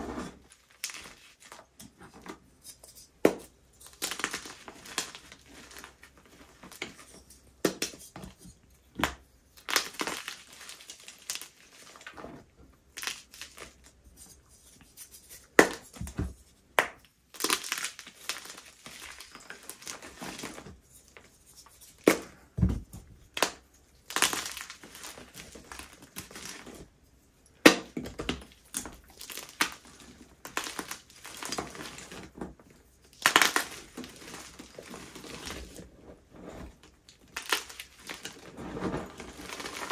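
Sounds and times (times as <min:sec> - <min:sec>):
chalk crunching and crumbling: 0:00.0 - 0:22.5, 0:23.2 - 0:39.9.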